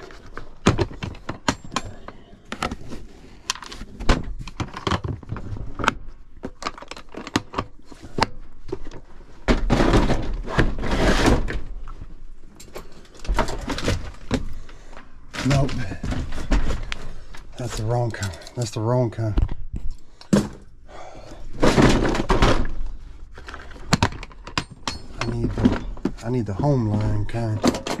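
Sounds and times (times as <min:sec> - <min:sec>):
parts clicking and clattering: 0:00.0 - 0:28.0.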